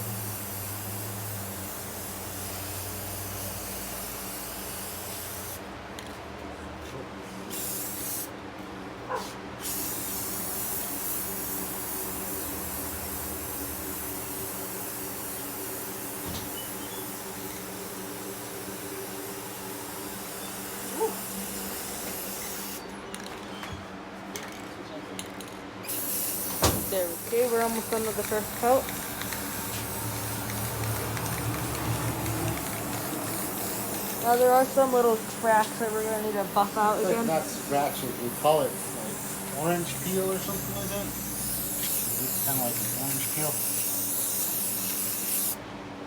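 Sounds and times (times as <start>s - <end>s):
aerosol spray can hissing: 0.2s - 5.6s, 7.5s - 8.3s, 9.6s - 22.8s, 25.9s - 45.6s.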